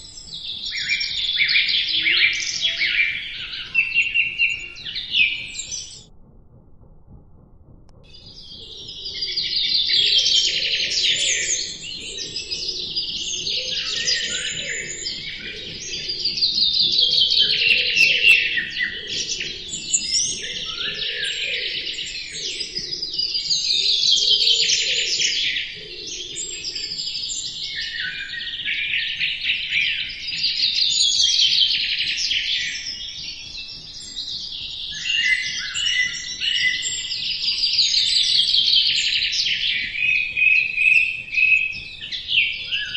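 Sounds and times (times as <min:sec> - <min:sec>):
small birds chirping and trilling: 0:00.0 - 0:06.1, 0:08.0 - 0:42.9.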